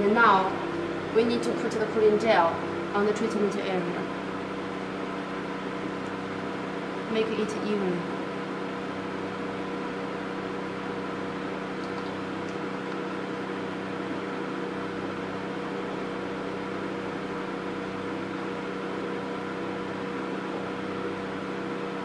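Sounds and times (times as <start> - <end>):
machine cooling system hum: 0.0 - 22.0.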